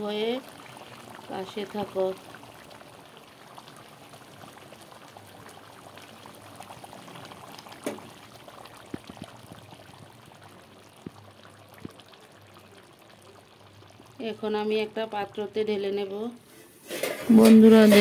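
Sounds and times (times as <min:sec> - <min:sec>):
curry bubbling: 0:00.0 - 0:18.0.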